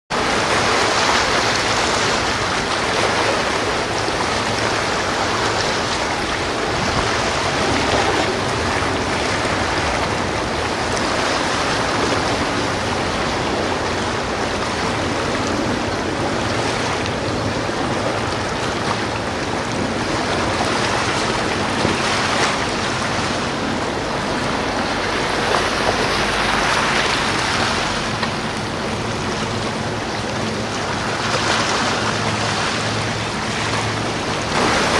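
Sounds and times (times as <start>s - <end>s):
sea water rushing: 0.1s - 34.9s
wind: 0.1s - 34.9s.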